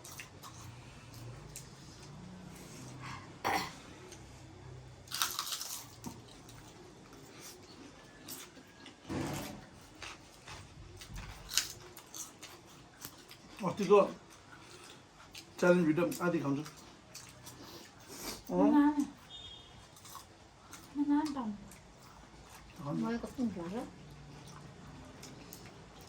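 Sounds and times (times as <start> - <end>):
quiet chewing of noodles: 0.0 - 9.1, 9.7 - 26.0.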